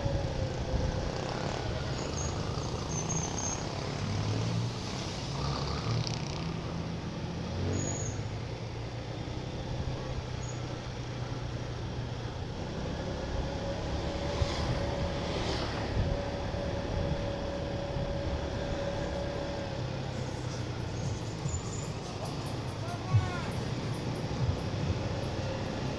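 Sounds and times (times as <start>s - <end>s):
vehicle engine and road hum: 0.0s - 25.9s.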